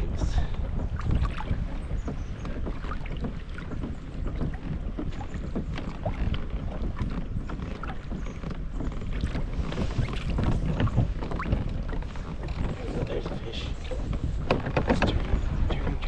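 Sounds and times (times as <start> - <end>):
small waves slapping hull: 0.0 - 16.0
wind rumbling on microphone: 0.0 - 16.0.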